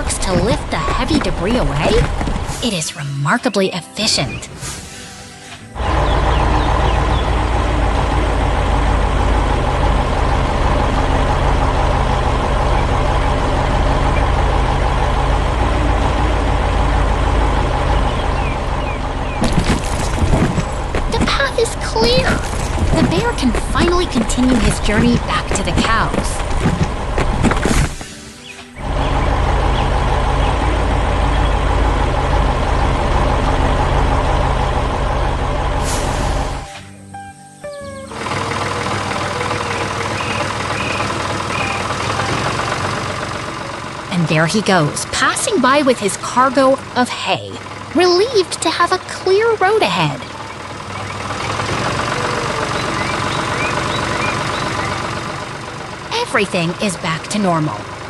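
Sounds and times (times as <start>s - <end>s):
heavy vehicle engine rumbling: 0.0s - 58.0s.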